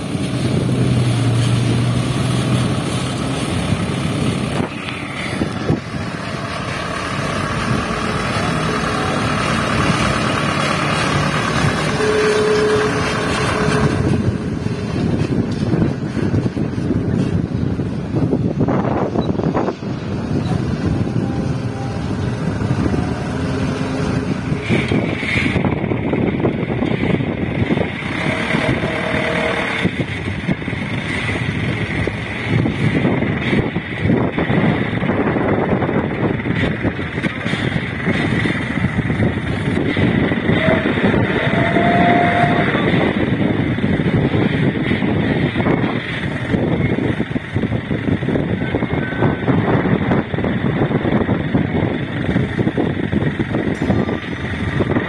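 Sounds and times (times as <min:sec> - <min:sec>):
diesel truck engine under load: 0:00.0 - 0:55.0
wind noise on microphone: 0:00.0 - 0:55.0.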